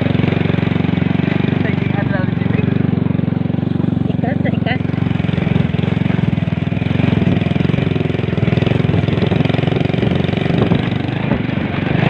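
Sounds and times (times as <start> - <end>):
engine running with fast pulse: 0.0 - 12.0.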